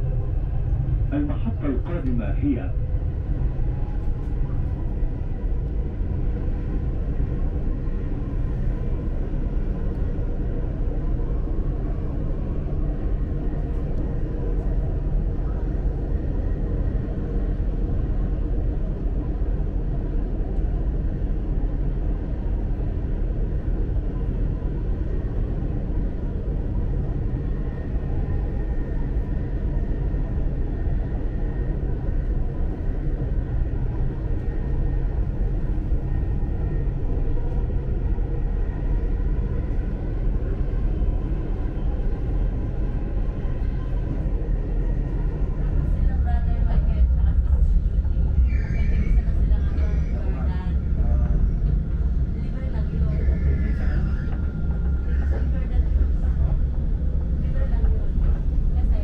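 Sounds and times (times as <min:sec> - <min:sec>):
faint steady whine: 0:00.0 - 0:59.0
train interior rumble: 0:00.0 - 0:59.0.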